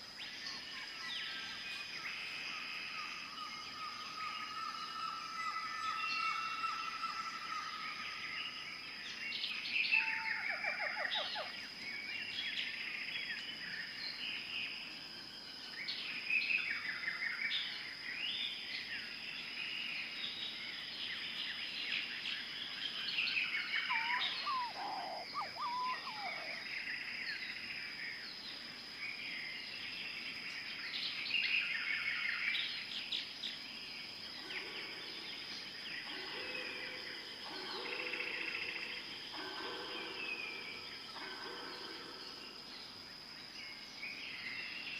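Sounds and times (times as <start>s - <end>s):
birds chirping and trilling: 0.0s - 14.8s, 15.4s - 44.9s.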